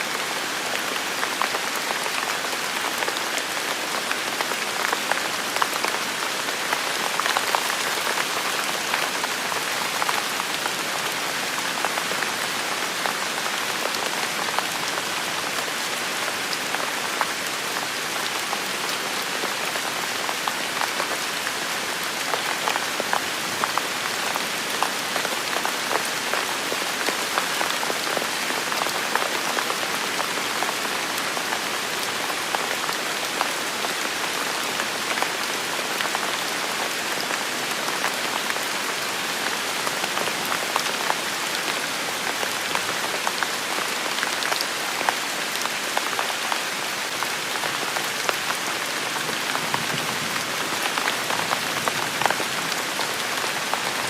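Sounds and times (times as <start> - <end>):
rain on hard surfaces: 0.0 - 54.0.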